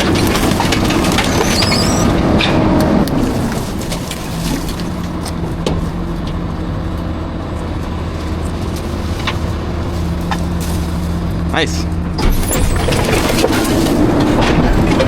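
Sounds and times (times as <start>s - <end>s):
garbage truck engine humming: 0.0s - 15.0s.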